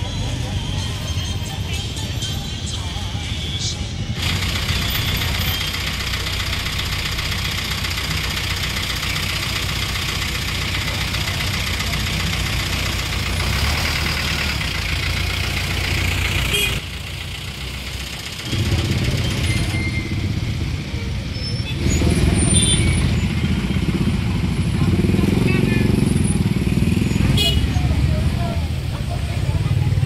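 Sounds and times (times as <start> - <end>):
street noise: 0.0 - 30.0
vehicle engine running: 0.0 - 30.0.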